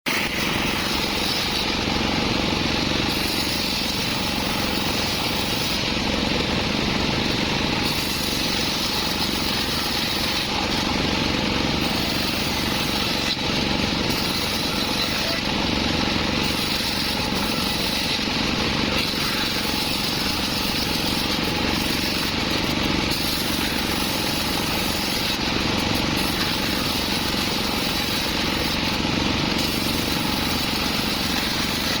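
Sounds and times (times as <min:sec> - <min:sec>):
sawmill engine and blade: 0:00.1 - 0:32.0.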